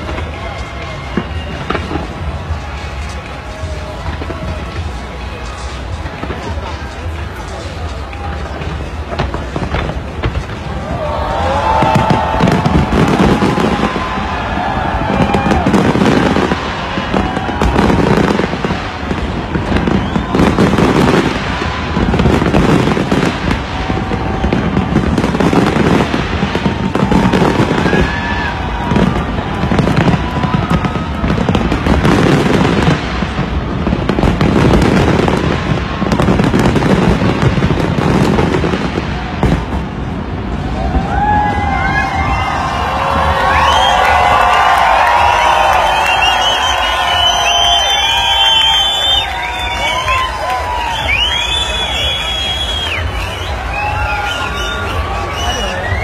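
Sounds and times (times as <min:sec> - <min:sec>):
crowd voices and cheers: 0:00.0 - 0:56.0
fireworks crackling and booming: 0:00.0 - 0:56.0.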